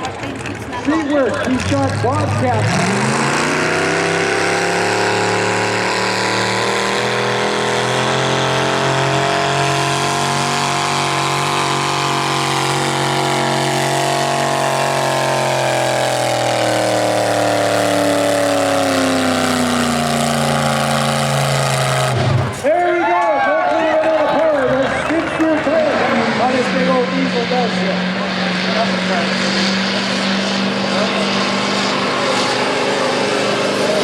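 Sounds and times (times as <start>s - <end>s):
diesel engine running: 0.0s - 23.0s, 23.6s - 34.0s.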